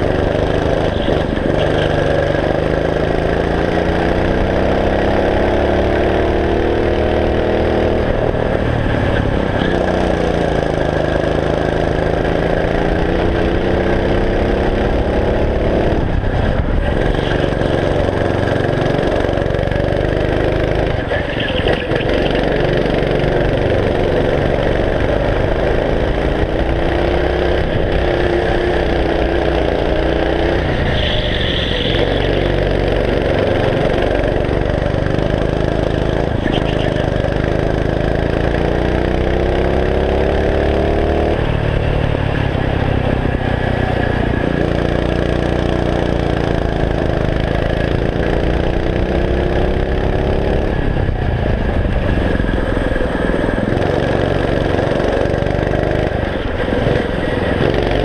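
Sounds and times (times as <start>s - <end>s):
go-kart engine revving: 0.0s - 58.0s
road and wind noise: 0.0s - 58.0s.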